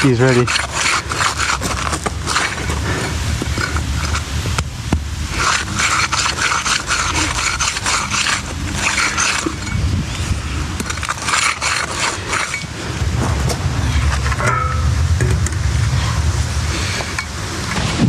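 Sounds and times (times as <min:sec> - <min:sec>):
tool scraping concrete: 0:00.0 - 0:15.4
low engine rumble: 0:00.0 - 0:18.0.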